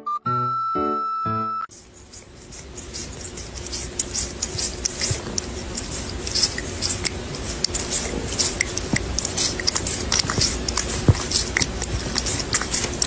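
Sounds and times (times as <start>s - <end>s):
cat licking and crunching cracker: 1.7s - 13.0s.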